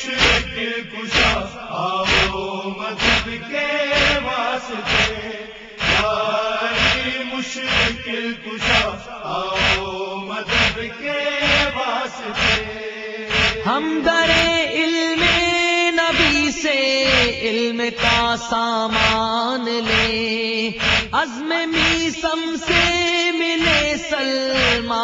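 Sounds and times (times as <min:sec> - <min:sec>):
male chorus chanting: 0:00.0 - 0:25.0
rhythmic chest-beating strikes: 0:00.0 - 0:25.0.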